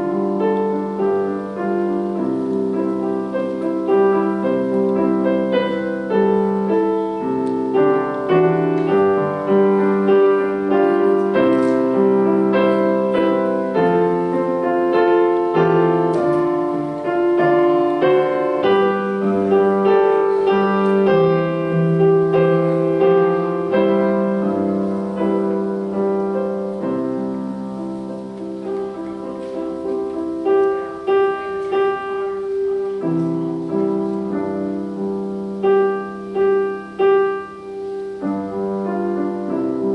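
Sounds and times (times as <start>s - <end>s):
solo piano: 0.0s - 39.9s.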